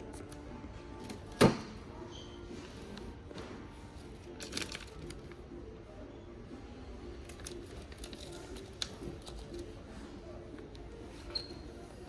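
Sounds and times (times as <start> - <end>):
faint distant voices: 0.9 - 12.0.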